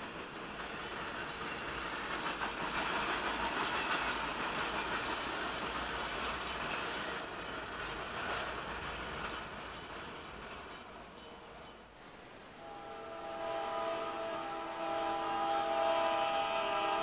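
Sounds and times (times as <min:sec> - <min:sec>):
steel wheels rushing on rail: 0:00.0 - 0:17.0.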